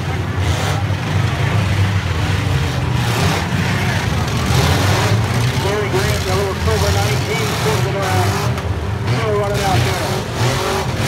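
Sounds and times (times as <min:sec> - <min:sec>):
derby car engines revving: 0:00.0 - 0:11.0.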